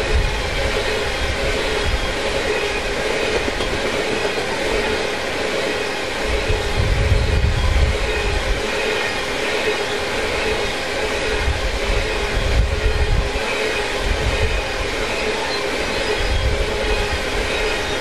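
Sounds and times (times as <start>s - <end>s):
train rumbling and rattling past: 0.0s - 18.0s.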